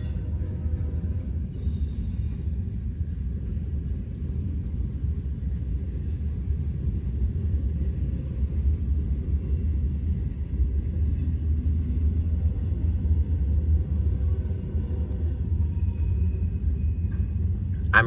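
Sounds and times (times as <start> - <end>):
freight train wheels rumbling on rail: 0.0 - 18.0.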